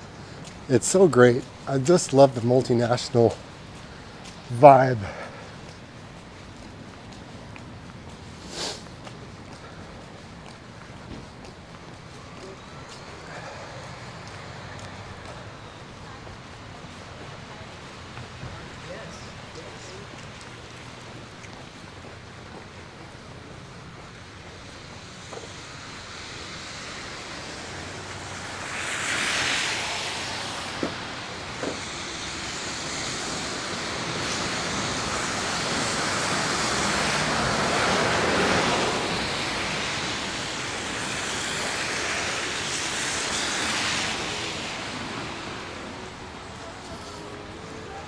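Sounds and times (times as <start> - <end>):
cars passing on wet street: 0.0 - 48.0.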